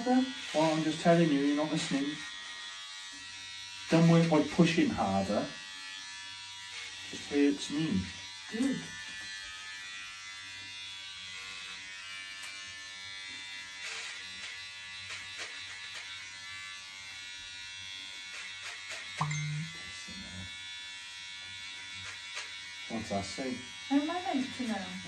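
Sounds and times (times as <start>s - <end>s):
electric hair clippers buzzing: 0.0s - 25.0s.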